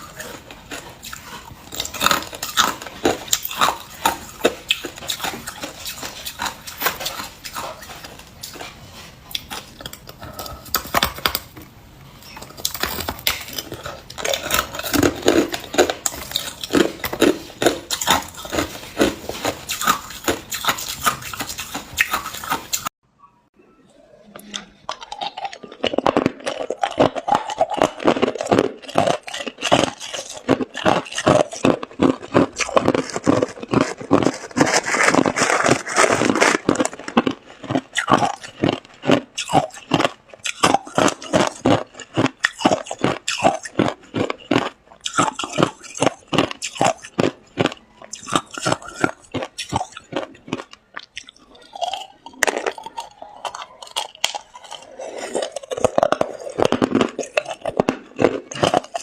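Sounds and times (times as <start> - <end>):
person chewing ice: 0.0 - 23.0, 24.3 - 59.0.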